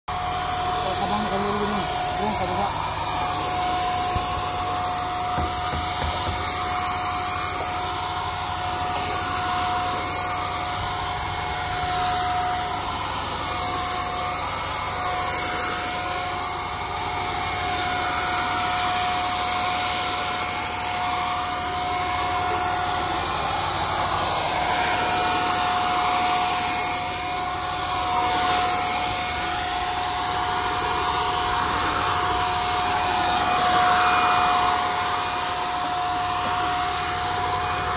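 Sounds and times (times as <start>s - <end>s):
electric paint sprayer whirring: 0.1s - 37.9s.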